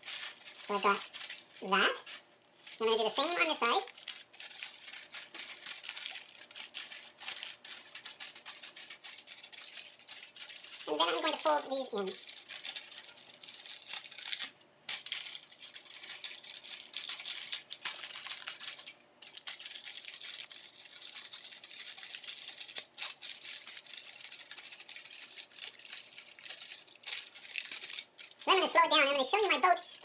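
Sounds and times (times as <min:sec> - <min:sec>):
aluminium foil crinkling: 0:00.0 - 0:30.0.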